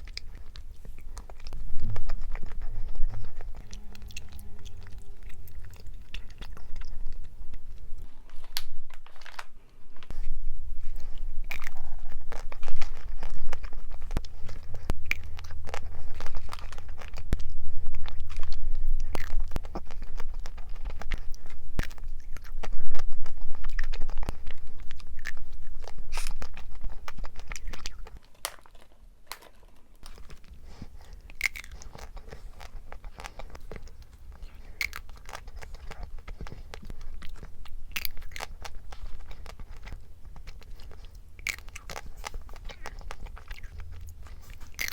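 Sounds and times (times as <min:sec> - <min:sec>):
crunching and smacking clicks: 0:00.0 - 0:44.9
person chewing food: 0:00.0 - 0:44.9.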